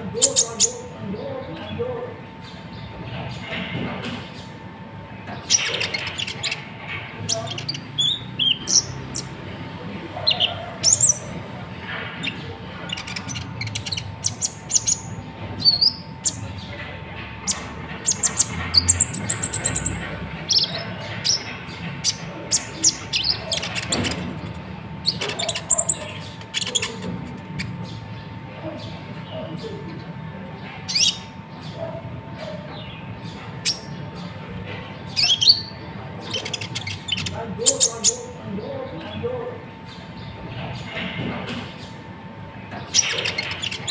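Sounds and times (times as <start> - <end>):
sunbird chirping and squeaking: 0.1 - 1.6, 5.2 - 9.5, 10.2 - 30.0, 30.6 - 41.0, 42.7 - 43.9.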